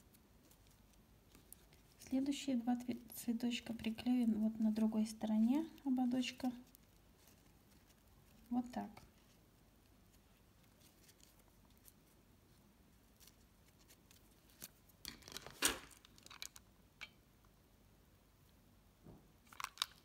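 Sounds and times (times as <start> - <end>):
clicks and rustles of handling: 0.0 - 12.2, 13.1 - 17.2, 19.4 - 20.0.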